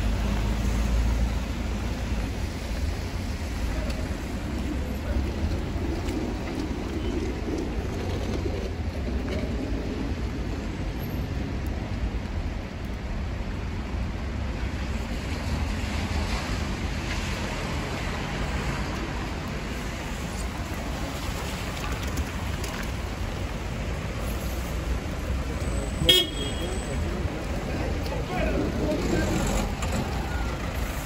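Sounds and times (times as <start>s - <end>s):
tyres hissing on wet road: 0.0s - 8.0s, 8.7s - 31.0s
low traffic rumble: 0.0s - 31.0s.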